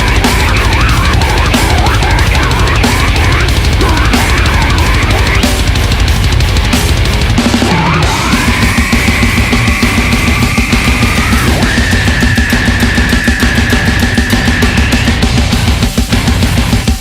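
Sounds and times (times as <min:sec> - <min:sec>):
driving drums: 0:00.0 - 0:17.0
heavy metal music: 0:00.0 - 0:17.0.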